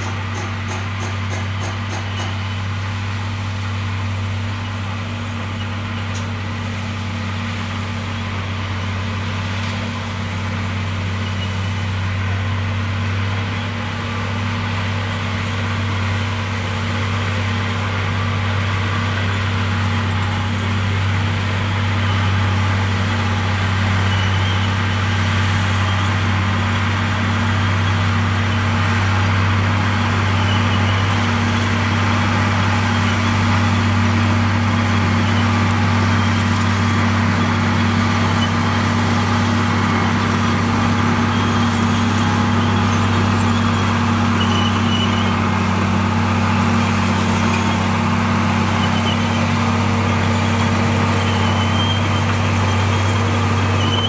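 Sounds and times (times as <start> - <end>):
bulldozer diesel engine humming: 0.0 - 54.0.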